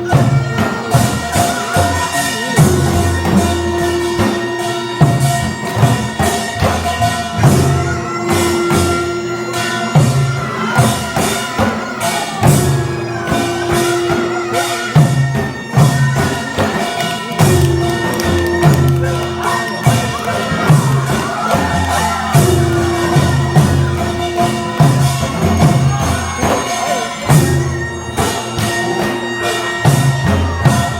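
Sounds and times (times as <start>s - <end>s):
drum and metal percussion: 0.0s - 30.9s.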